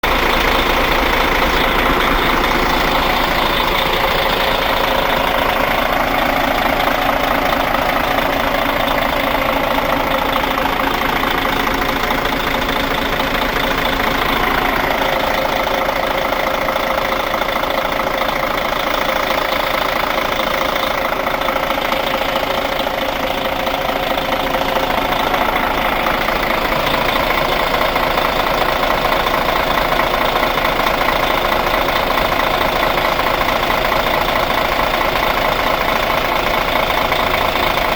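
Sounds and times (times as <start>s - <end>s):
diesel bus engine idling: 0.0s - 37.9s.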